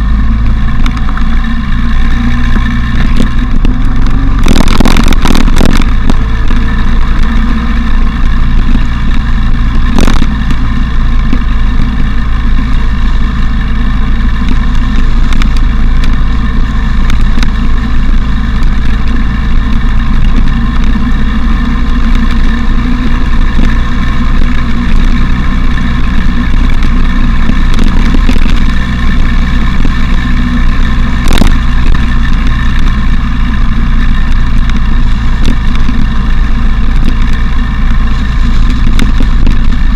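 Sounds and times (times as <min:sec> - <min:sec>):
motorcycle engine cruising: 0:00.0 - 0:39.9
wind rumble on microphone: 0:00.0 - 0:39.9.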